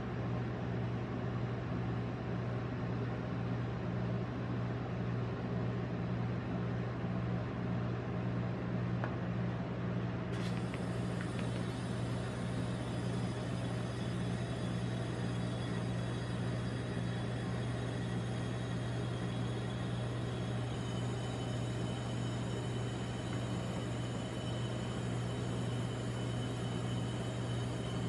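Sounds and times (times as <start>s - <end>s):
refrigeration unit humming: 0.0s - 28.0s.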